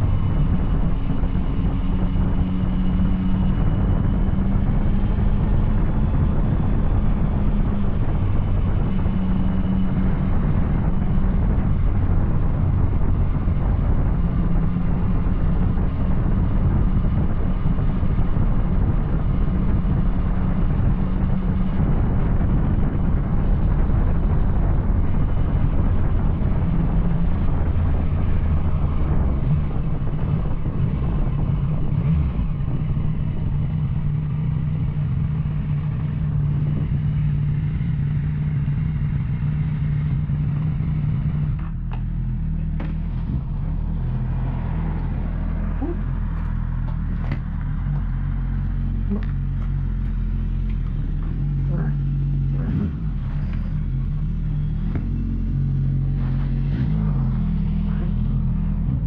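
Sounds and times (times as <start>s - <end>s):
motorcycle engine running: 0.0s - 59.0s
rush of noise: 0.0s - 59.0s.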